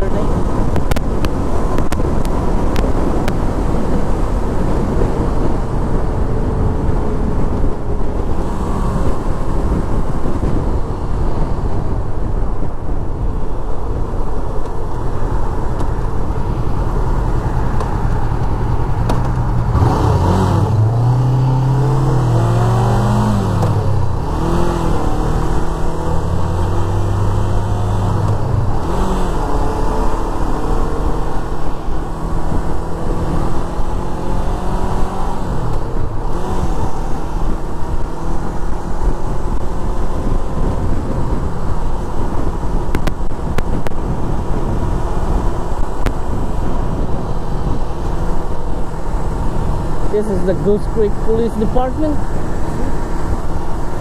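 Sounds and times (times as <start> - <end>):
motorcycle engine revving: 0.0 - 12.4, 14.0 - 54.0
wind rushing over microphone: 0.0 - 54.0.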